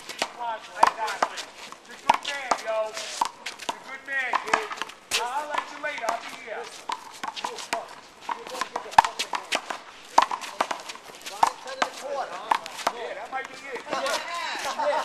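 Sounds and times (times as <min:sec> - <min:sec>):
handball smacking off concrete wall: 0:00.1 - 0:14.1.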